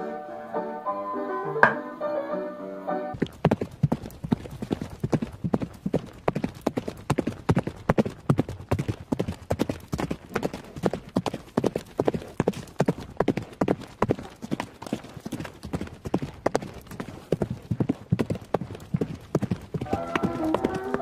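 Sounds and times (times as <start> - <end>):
horse hooves clip-clopping: 3.2 - 21.0.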